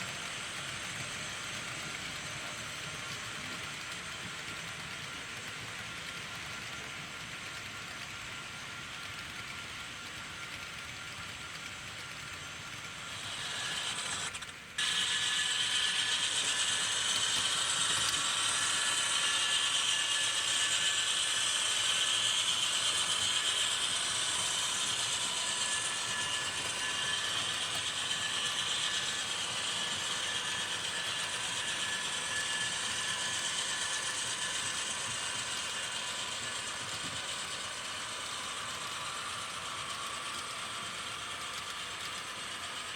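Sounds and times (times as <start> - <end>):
model train whir and clatter: 0.0 - 42.9.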